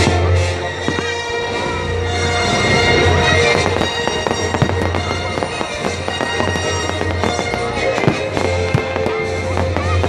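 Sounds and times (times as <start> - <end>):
fireworks crackling and banging: 0.0 - 10.0
music: 0.0 - 10.0.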